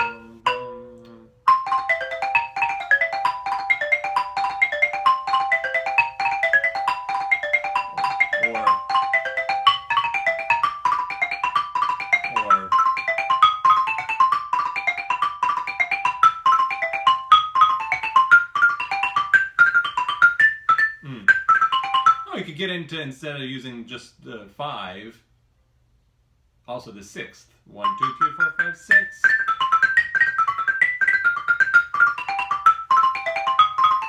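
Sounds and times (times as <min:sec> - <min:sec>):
xylophone arpeggios: 0:00.0 - 0:22.4, 0:27.8 - 0:34.0.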